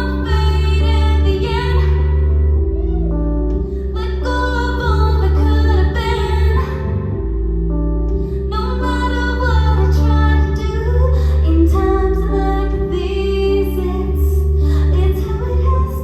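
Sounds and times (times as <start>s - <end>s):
woman singing: 0.0s - 2.8s, 3.7s - 7.1s, 8.4s - 16.0s
sustained low chords: 0.0s - 16.0s.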